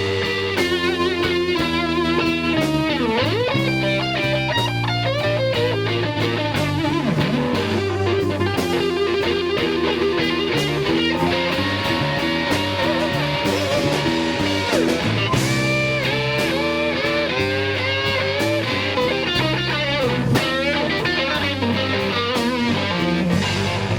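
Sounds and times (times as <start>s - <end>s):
bass: 0.0s - 23.9s
drums: 0.0s - 23.9s
electric guitar lead lines: 0.0s - 23.9s.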